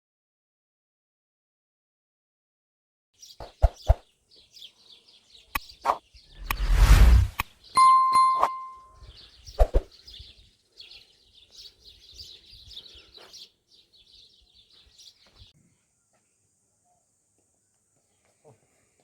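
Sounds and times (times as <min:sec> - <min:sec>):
faint bird chirping: 0:03.2 - 0:18.6.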